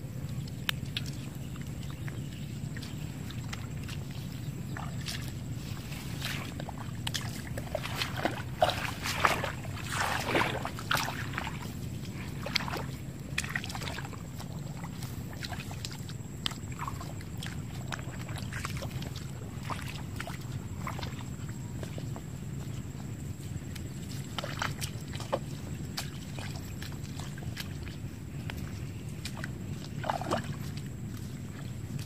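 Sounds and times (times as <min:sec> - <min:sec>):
feet wading through muddy water: 0:00.0 - 0:32.0
steady low hum: 0:00.0 - 0:32.0.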